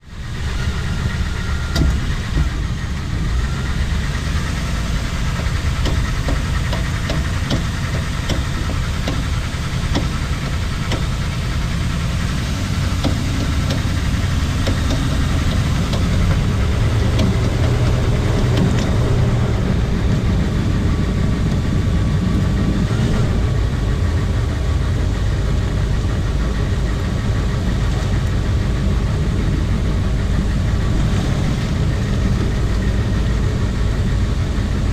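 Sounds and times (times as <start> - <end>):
road and drivetrain rumble: 0.0 - 34.9
rotational clicking from drivetrain: 0.1 - 34.9.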